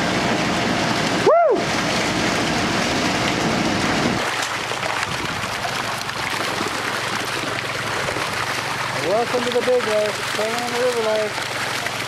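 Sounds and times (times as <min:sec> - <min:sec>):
water rushing down a chute: 0:00.1 - 0:12.0
fish thrashing and splashing: 0:01.6 - 0:12.0.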